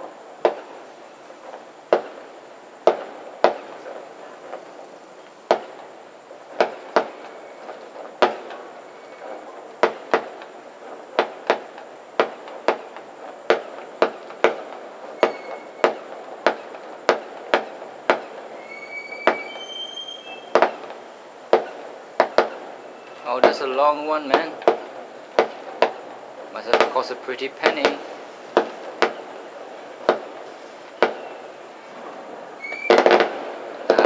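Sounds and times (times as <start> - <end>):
fireworks banging: 0.0 - 34.0
fireworks whistling: 0.0 - 34.0.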